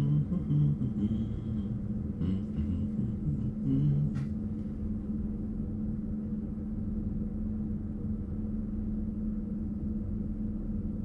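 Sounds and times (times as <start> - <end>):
constant hum: 0.0 - 11.0
train cab low rumble: 0.0 - 11.0.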